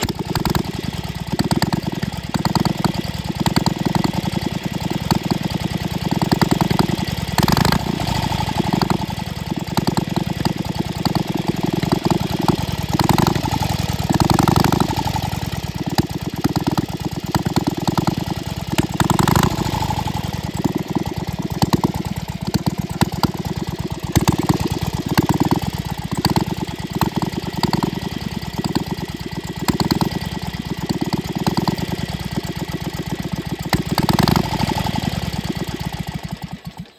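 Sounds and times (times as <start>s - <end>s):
motorcycle engine firing unevenly: 0.0s - 36.9s.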